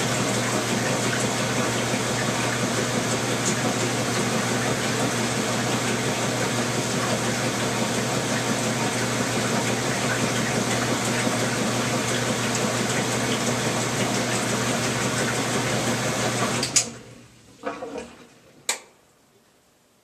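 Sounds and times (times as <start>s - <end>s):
washing machine running: 0.0s - 18.7s.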